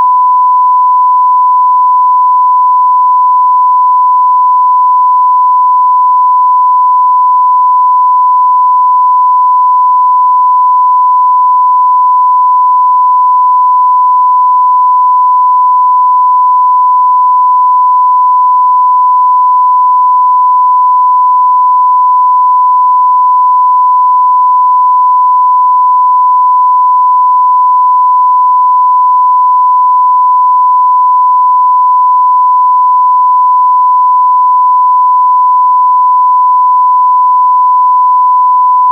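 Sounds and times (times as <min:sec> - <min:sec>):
long electronic censor beep: 0:00.0 - 0:38.9.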